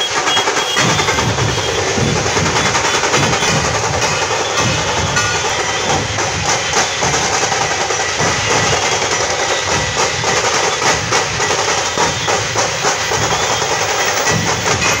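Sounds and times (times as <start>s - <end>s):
dhol drums beating: 0.0s - 15.0s.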